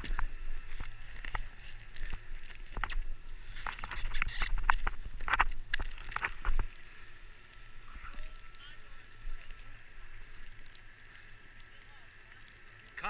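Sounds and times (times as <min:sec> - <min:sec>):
crunching in packed snow: 0:00.0 - 0:13.0.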